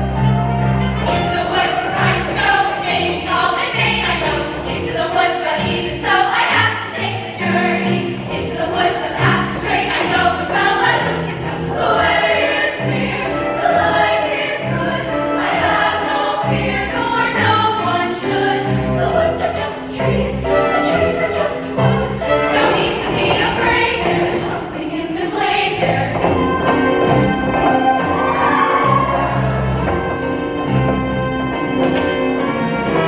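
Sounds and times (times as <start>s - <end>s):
instrumental accompaniment: 0.0s - 33.0s
women's choir singing in harmony: 0.2s - 33.0s.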